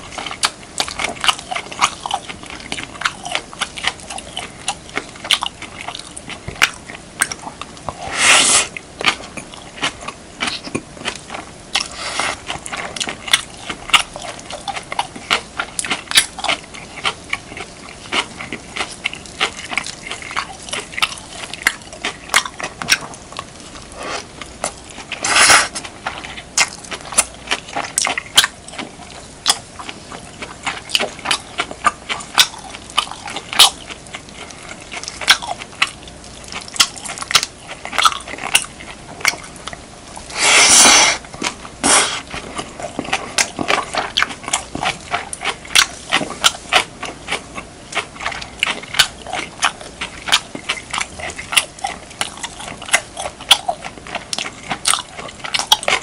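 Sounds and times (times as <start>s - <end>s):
wet chewing and mouth clicks: 0.0s - 56.0s.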